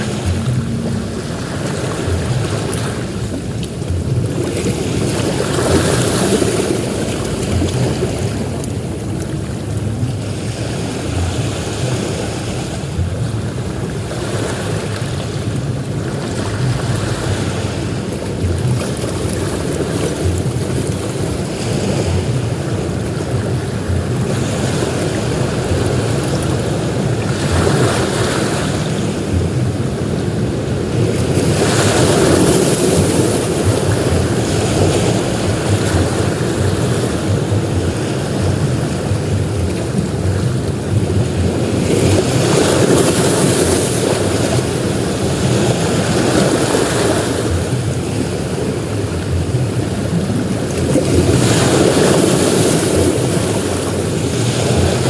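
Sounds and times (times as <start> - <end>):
waves breaking on a beach: 0.0 - 55.0
wind rumbling on microphone: 0.0 - 55.0.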